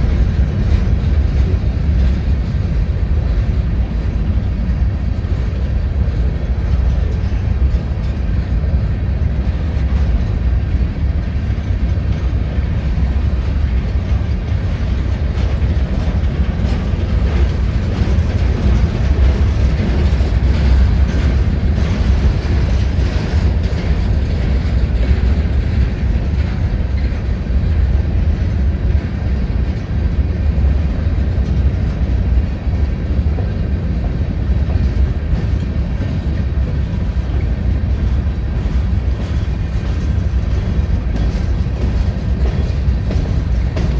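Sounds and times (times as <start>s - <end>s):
freight train rumbling on rails: 0.0s - 43.9s.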